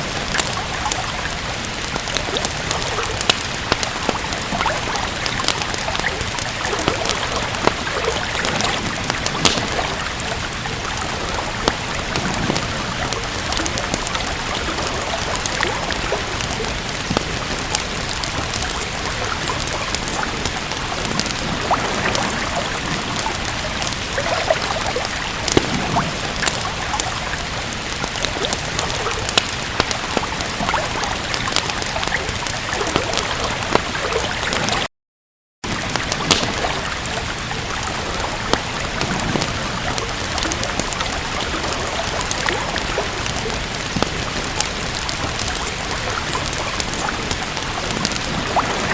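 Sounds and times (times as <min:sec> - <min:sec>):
steady rain: 0:00.0 - 0:34.9, 0:35.6 - 0:48.9
wood fire crackling: 0:00.0 - 0:34.9, 0:35.6 - 0:48.9.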